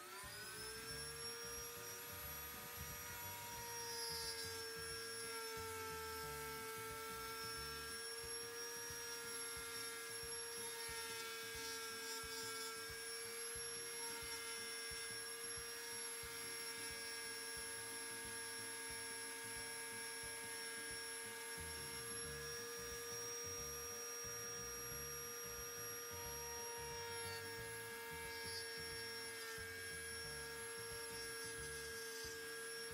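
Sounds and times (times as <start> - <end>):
router whining while cutting wood: 0.0 - 32.9.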